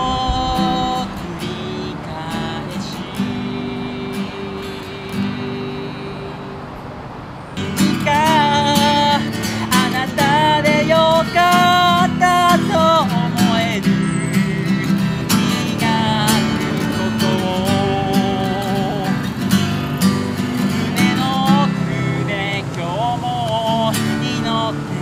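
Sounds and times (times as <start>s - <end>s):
man singing: 0.0s - 6.8s, 7.6s - 25.0s
acoustic guitar strumming: 0.0s - 25.0s.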